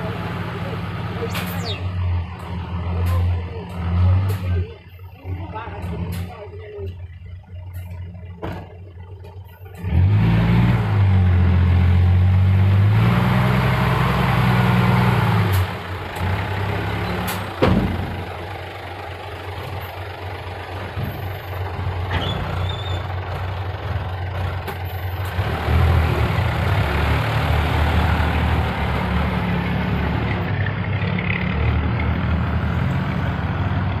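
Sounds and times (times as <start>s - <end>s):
diesel truck engine revving: 0.0s - 34.0s.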